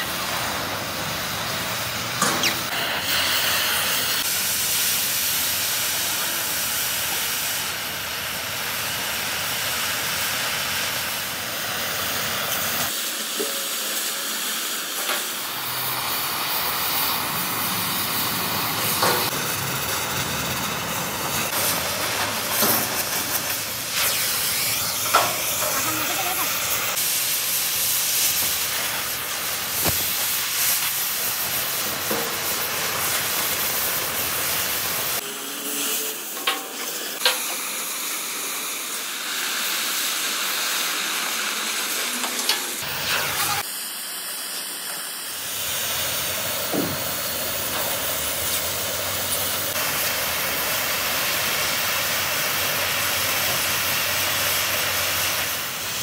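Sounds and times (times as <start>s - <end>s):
cutting torch hissing: 0.0s - 56.0s.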